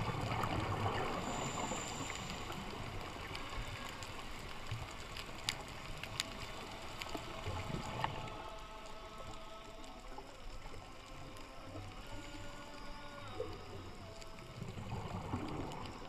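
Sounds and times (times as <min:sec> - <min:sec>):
muffled underwater hiss: 0:00.0 - 0:16.0.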